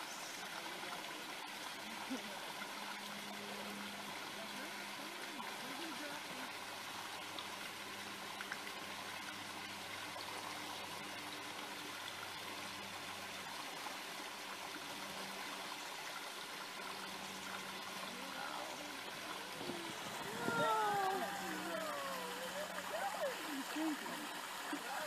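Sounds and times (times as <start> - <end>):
creek water pouring into pool: 0.0 - 25.0.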